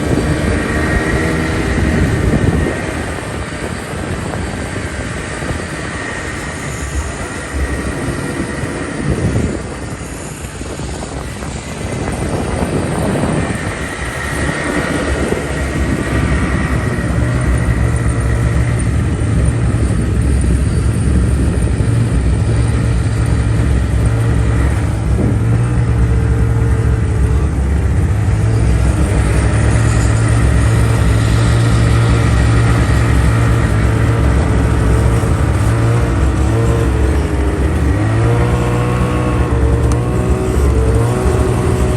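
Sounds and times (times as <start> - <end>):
large vehicle engine running: 0.0 - 41.9.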